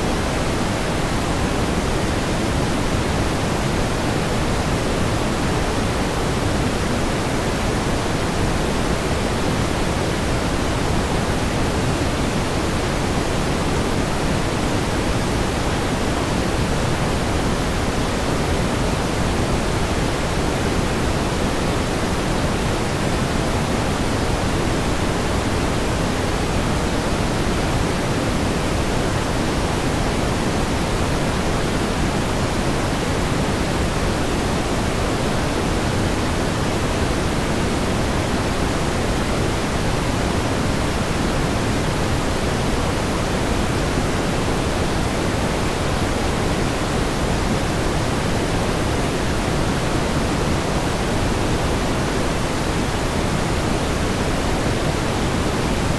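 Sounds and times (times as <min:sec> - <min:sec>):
pink noise hiss: 0:00.0 - 0:55.9.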